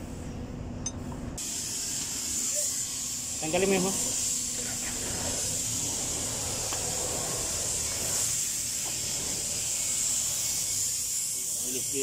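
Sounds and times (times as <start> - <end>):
steady hiss: 1.4 - 12.0.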